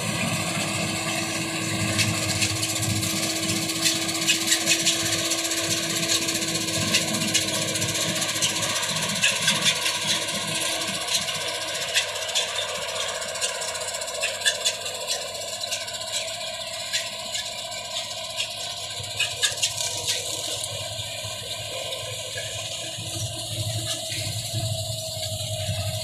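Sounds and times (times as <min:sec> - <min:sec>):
harvester engine and threshing drone: 0:00.0 - 0:26.0
whining tones: 0:00.0 - 0:26.0.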